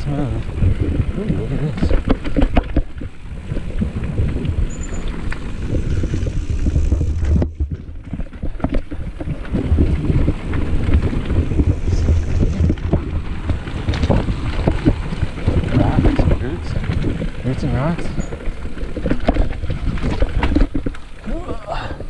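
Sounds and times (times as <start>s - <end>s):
bike rattling over bumps: 0.0s - 22.0s
wind buffeting microphone: 0.0s - 22.0s.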